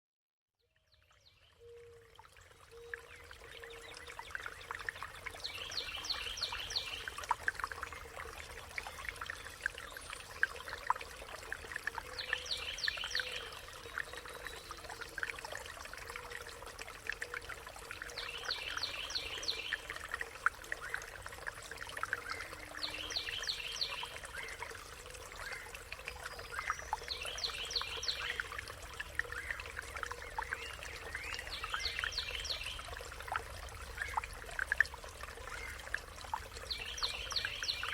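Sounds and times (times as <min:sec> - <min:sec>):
water trickling: 0:00.7 - 0:37.9.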